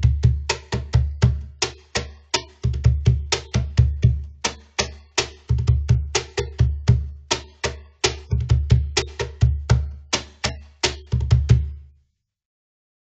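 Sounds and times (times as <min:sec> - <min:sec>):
cajon played by hand: 0:00.0 - 0:11.8.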